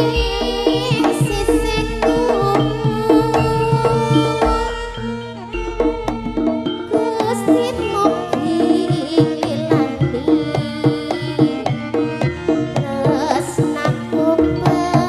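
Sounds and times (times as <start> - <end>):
gong-chime and metallophone tones: 0.0 - 12.8
hand drums steady beat: 0.0 - 15.0
wavering melody line: 0.0 - 15.0.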